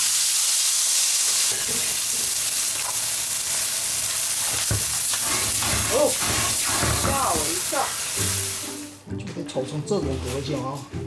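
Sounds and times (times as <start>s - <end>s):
food sizzling in hot oil: 0.0s - 9.0s.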